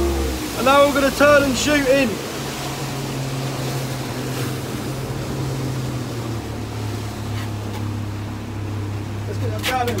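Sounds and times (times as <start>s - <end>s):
outboard motor running: 0.0s - 10.0s
water and wind noise: 0.0s - 10.0s.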